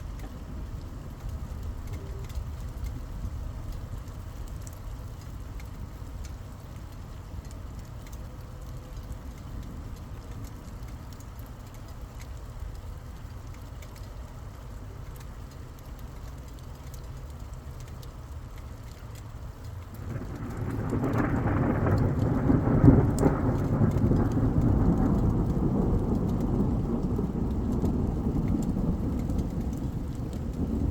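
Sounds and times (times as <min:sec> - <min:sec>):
dripping ticks: 0:00.0 - 0:30.9
low continuous rumble: 0:00.0 - 0:30.9
steady rain: 0:00.0 - 0:30.9.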